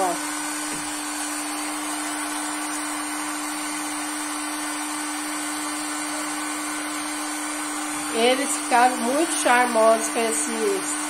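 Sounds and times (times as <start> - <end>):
heat gun humming and blowing: 0.0 - 11.0.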